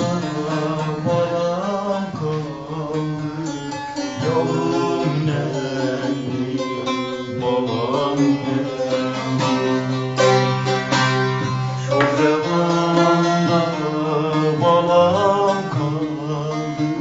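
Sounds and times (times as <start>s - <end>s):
long-necked lute folk melody: 0.0s - 17.0s.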